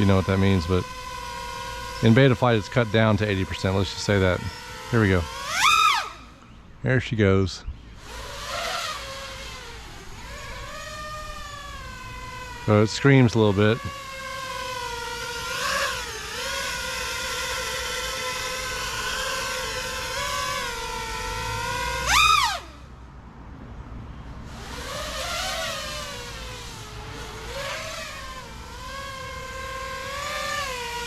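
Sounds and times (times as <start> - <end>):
quadcopter motors screaming: 0.0 - 23.0, 24.4 - 31.0.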